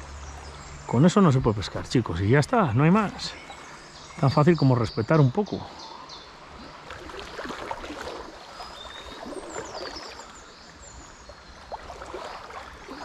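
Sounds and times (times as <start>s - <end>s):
river water babbling: 0.0s - 13.0s.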